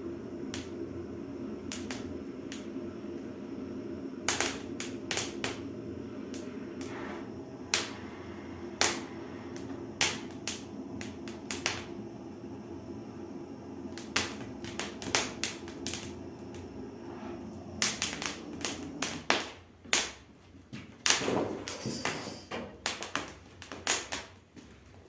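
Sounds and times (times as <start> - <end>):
wood fire crackling: 0.0 - 22.2, 22.8 - 25.0.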